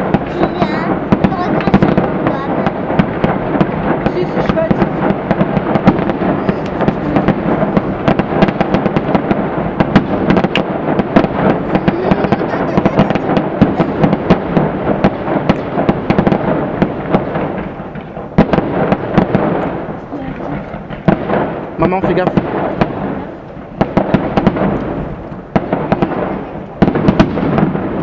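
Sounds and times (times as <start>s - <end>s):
fireworks bangs and crackles: 0.0s - 28.0s
steady din: 0.0s - 28.0s.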